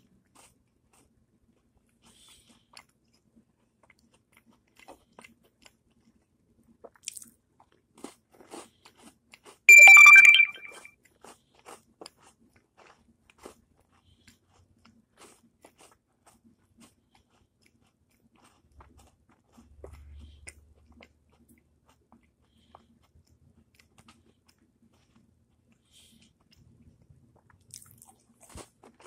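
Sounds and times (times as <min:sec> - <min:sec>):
crunchy cookie being chewed: 0:00.0 - 0:09.7, 0:11.0 - 0:29.0.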